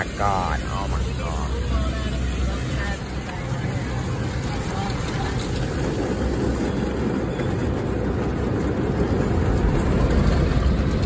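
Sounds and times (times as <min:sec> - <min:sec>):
car wash water spraying: 0:00.0 - 0:09.0.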